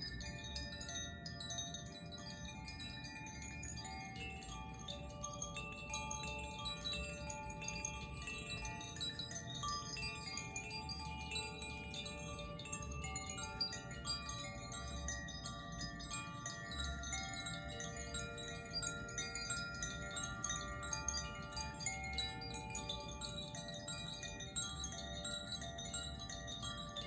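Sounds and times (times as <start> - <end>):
wind chimes tinkling: 0.0 - 27.0.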